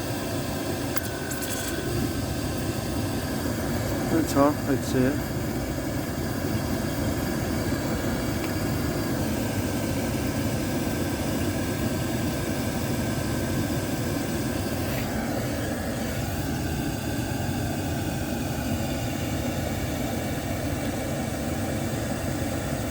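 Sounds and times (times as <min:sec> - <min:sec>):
oil boiler burner running: 0:00.0 - 0:22.9.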